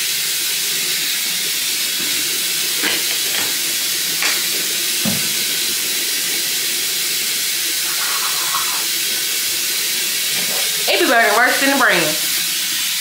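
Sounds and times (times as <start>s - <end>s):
sink tap running water: 0.0s - 13.0s.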